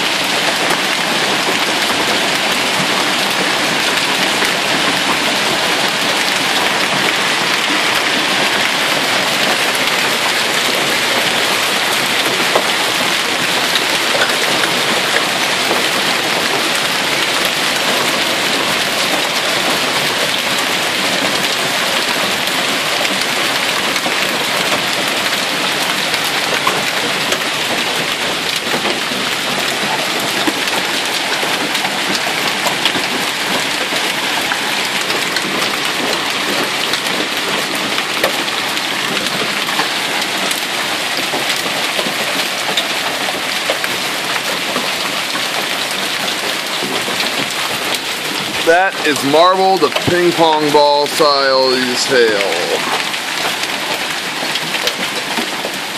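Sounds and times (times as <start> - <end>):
hail clattering: 0.0 - 55.9.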